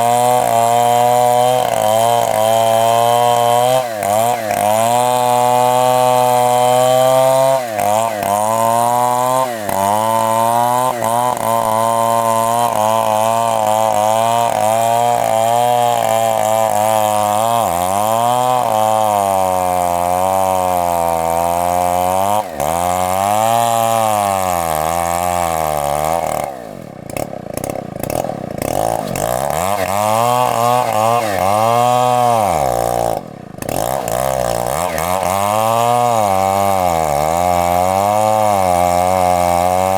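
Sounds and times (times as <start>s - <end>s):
chainsaw cutting under load: 0.0s - 39.9s.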